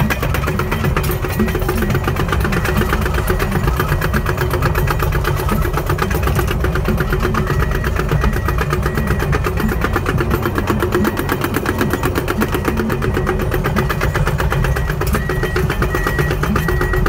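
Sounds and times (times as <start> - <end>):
diesel engine running: 0.0 - 17.0
faint beep: 0.0 - 17.0.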